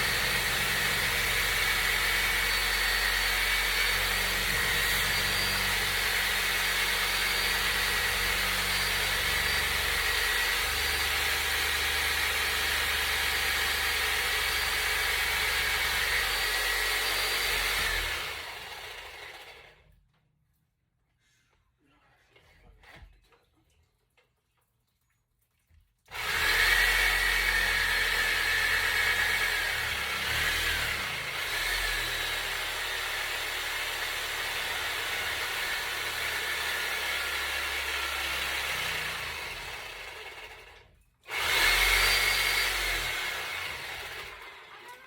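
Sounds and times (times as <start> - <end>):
power tool cutting pipe: 0.0 - 19.8, 26.1 - 45.0.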